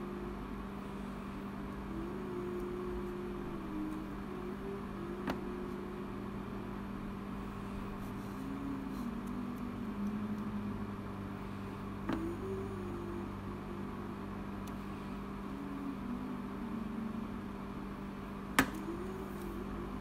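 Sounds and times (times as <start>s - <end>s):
faint wavering high tone: 0.0s - 17.9s, 18.8s - 20.0s
projector cooling fan humming: 0.0s - 20.0s.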